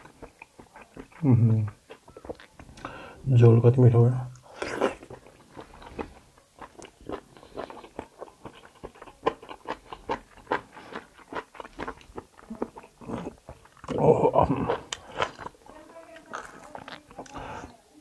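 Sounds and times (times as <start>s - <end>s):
close chewing and biting: 0.0s - 3.5s, 4.3s - 17.7s.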